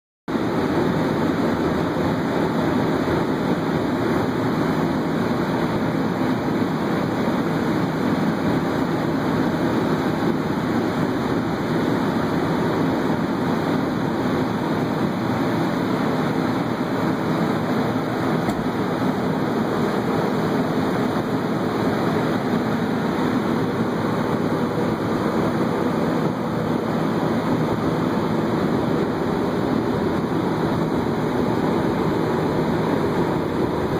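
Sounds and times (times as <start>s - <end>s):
heaters and fans blowing air: 0.3s - 33.9s.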